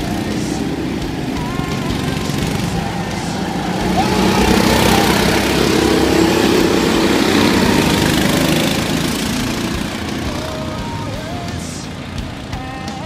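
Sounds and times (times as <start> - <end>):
go-kart engines running: 0.0 - 13.0.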